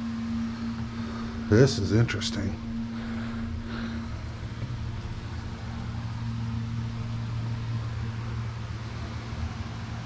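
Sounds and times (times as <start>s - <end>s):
low mechanical hum with hiss: 0.0s - 10.0s.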